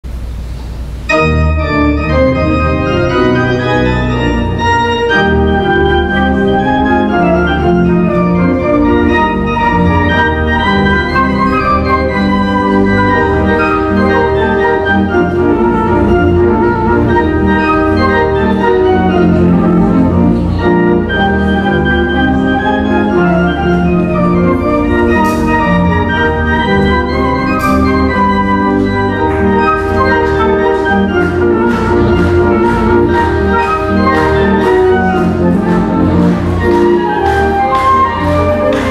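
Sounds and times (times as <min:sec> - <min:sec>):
organ chords: 0:00.1 - 0:38.9
flute melody: 0:01.1 - 0:38.9.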